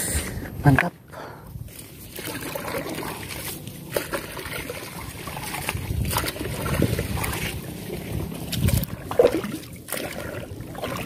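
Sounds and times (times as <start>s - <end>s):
water sloshing and trickling: 1.6s - 11.0s.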